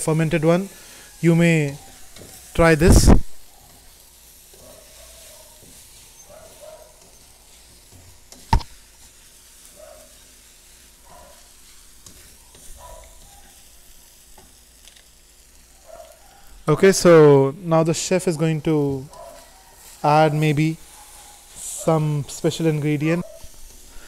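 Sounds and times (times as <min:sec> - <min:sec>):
noodles sizzling in a wok: 0:00.0 - 0:24.0.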